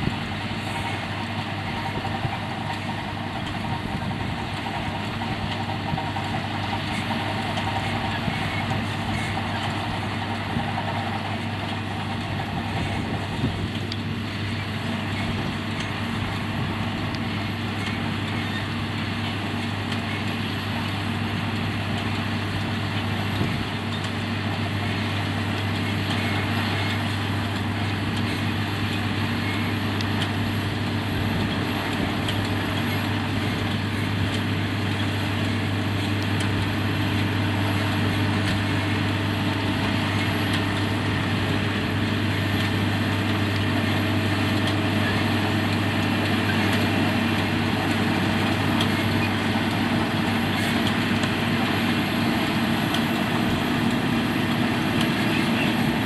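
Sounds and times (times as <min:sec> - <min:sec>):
farm machinery engine drone: 0:00.0 - 0:56.0.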